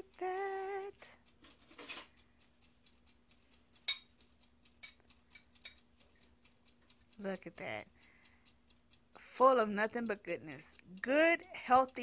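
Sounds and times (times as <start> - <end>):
spoon clicking and scraping skillet: 1.3 - 12.0.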